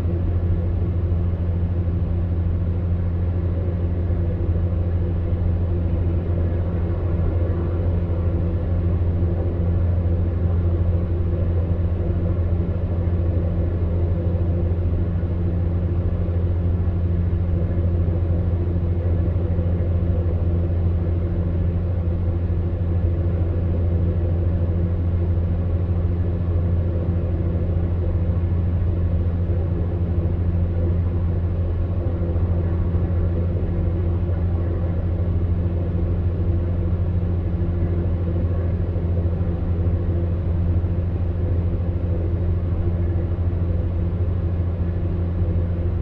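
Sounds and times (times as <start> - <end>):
fan heater humming: 0.0 - 46.0.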